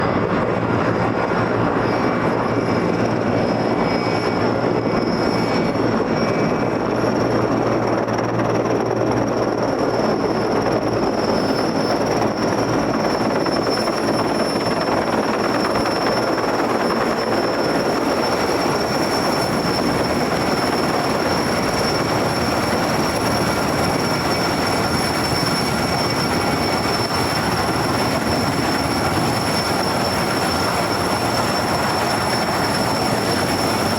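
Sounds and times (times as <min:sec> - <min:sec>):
helicopter engine roar: 0:00.0 - 0:33.9
high turbine whine: 0:00.0 - 0:33.9.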